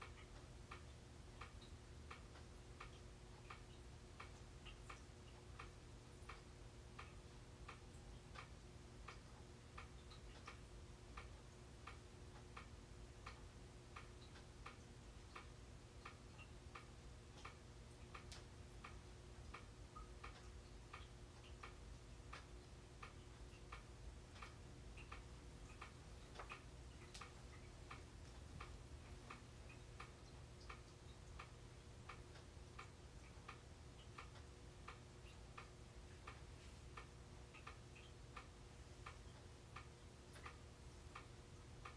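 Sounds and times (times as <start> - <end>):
ceiling fan ticking: 0.0 - 41.9.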